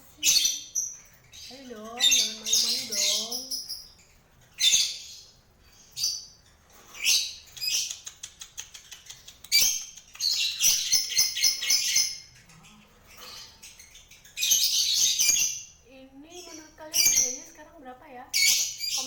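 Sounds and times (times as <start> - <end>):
lovebird chirping: 0.0 - 17.7, 18.3 - 19.0.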